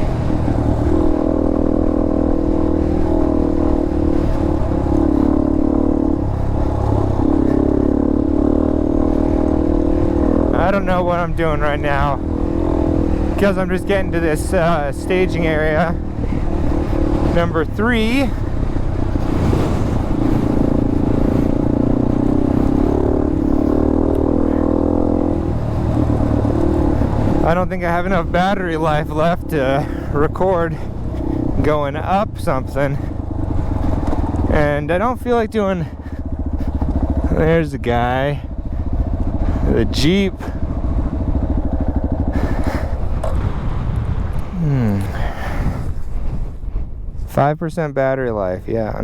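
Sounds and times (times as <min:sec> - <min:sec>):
dirt bike engine running: 0:00.0 - 0:47.5.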